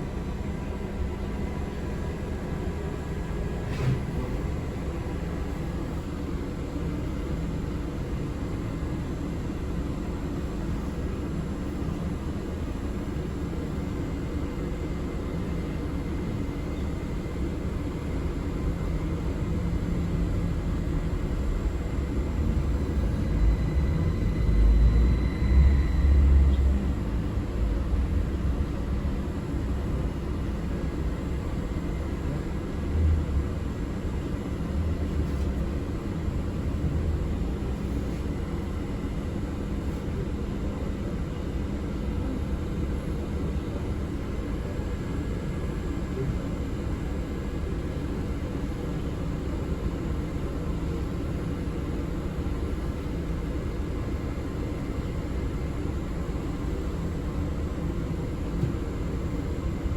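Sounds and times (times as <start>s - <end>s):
bus rumbling in motion: 0.0s - 46.5s, 49.9s - 59.9s.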